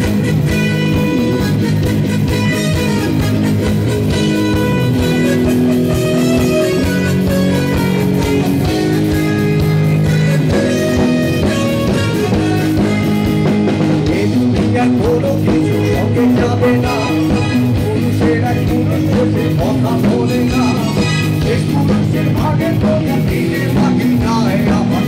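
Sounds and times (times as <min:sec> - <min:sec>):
electric guitar: 0:00.0 - 0:25.0
rock band playing loudly: 0:00.0 - 0:25.0.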